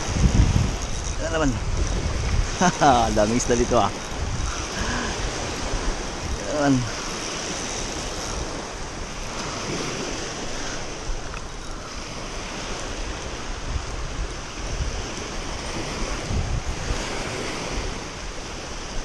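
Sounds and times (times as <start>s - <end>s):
waves washing over pebbles: 0.0s - 19.0s
wind rumbling on microphone: 0.0s - 19.0s.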